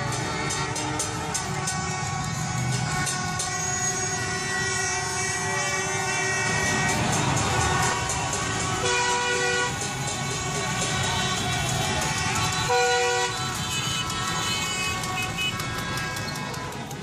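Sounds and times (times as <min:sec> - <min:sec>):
car horns tooting: 0:00.0 - 0:17.0
long horn blasts: 0:00.0 - 0:17.0
traffic and crowd din: 0:00.0 - 0:17.0.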